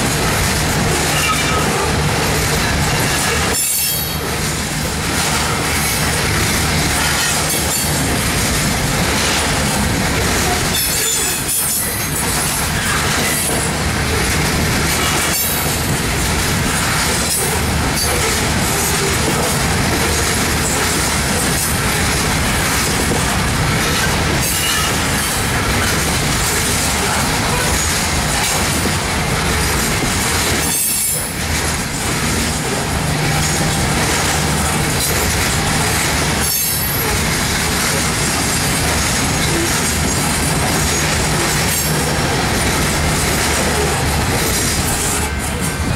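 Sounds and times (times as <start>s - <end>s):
train wheels rumbling on rail: 0.0s - 45.9s
wheels clicking over rail joints: 0.0s - 45.9s.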